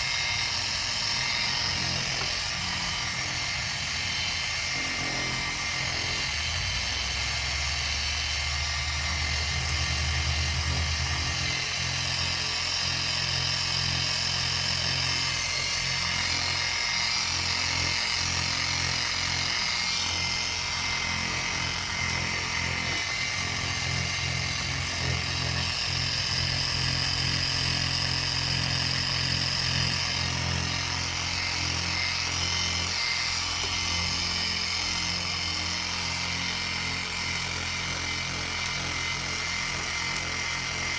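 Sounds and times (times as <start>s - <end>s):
handheld power sander humming: 0.0s - 40.9s.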